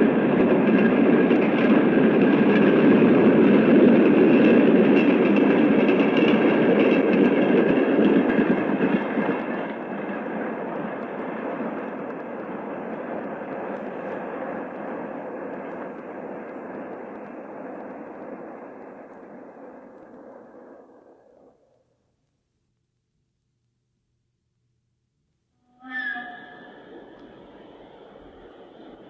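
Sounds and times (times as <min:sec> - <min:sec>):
train passing at high speed: 0:00.0 - 0:21.9, 0:25.8 - 0:29.0.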